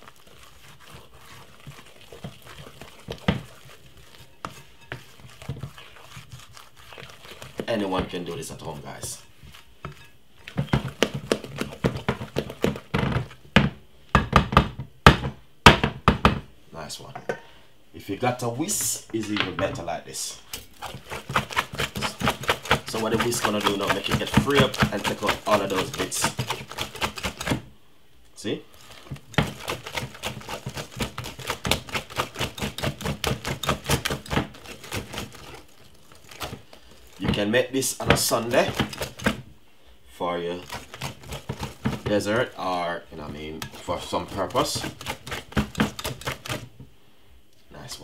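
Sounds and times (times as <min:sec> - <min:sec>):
spoon beating batter in glass bowl: 0:00.0 - 0:15.8, 0:20.5 - 0:27.7, 0:28.7 - 0:39.5, 0:40.5 - 0:46.8.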